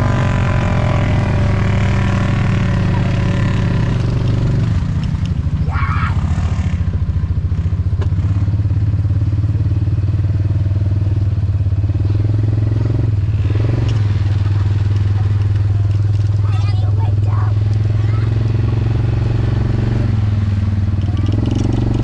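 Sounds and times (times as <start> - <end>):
knocks and rattles over ruts: 0.0 - 22.0
utility vehicle engine running: 0.0 - 22.0.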